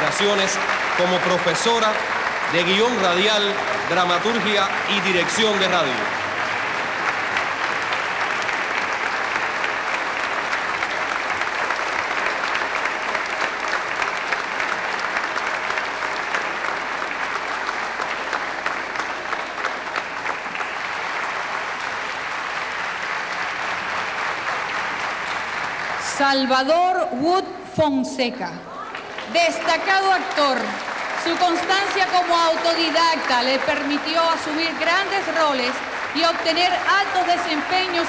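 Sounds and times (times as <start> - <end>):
audience applauding: 0.0 - 26.9, 28.7 - 38.0.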